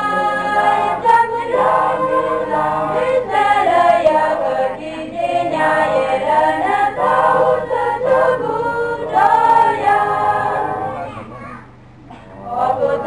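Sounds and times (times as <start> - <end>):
small choir singing: 0.0 - 11.2, 12.1 - 13.0.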